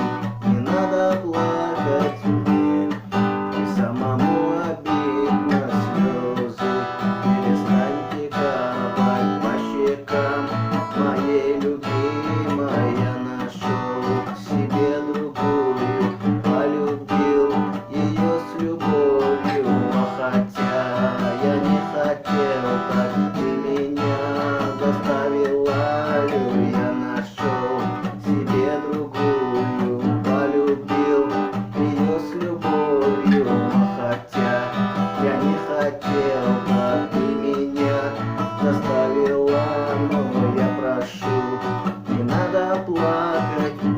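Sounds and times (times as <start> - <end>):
acoustic guitar strumming: 0.0 - 43.9
guitar melody line: 0.0 - 43.9.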